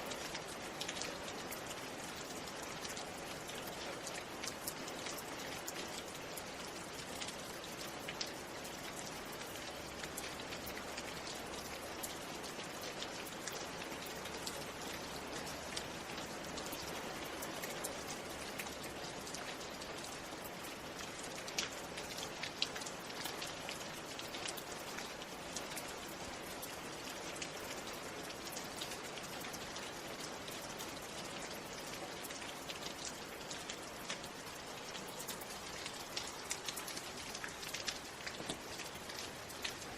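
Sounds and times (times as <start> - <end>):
steady rain hiss: 0.0 - 39.9
raindrops tapping on a surface: 0.1 - 39.9.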